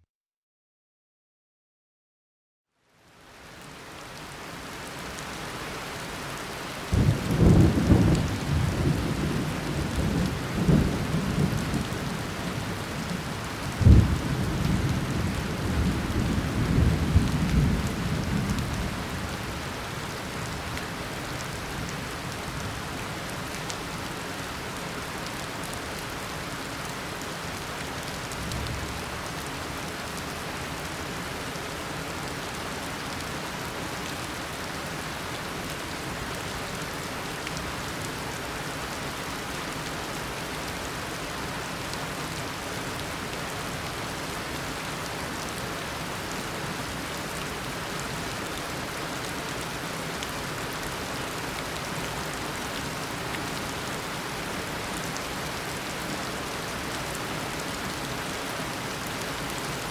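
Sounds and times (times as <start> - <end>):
heavy rain downpour: 2.9 - 59.9.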